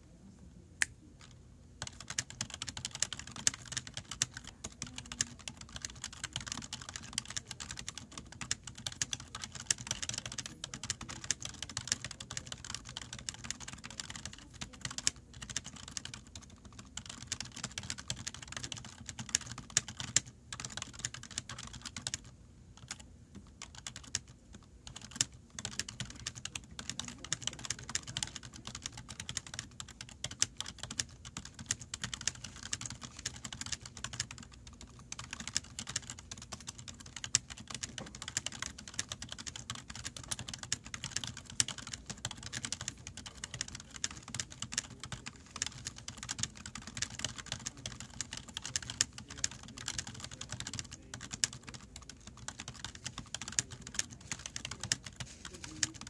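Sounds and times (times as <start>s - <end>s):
fast keyboard typing: 1.2s - 56.0s.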